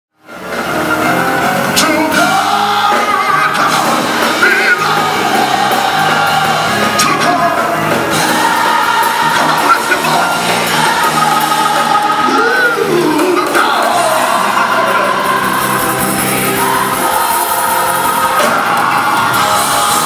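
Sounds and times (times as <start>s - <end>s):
gospel band playing: 0.2s - 20.0s
person singing: 1.7s - 20.0s.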